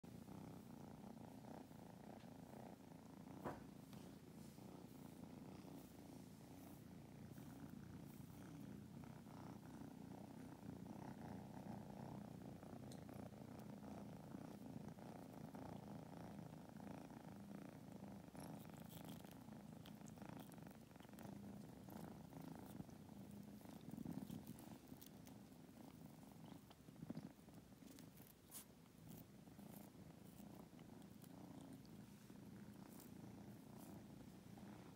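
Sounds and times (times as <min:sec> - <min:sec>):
kitten purring: 0:00.0 - 0:34.9
faint clicks and scratches: 0:00.4 - 0:34.9.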